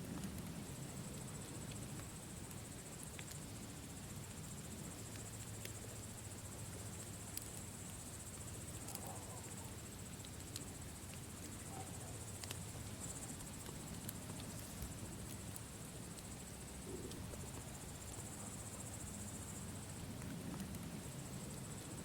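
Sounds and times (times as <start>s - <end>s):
campfire crackling and popping: 0.0s - 22.0s
crickets trilling: 0.0s - 22.0s.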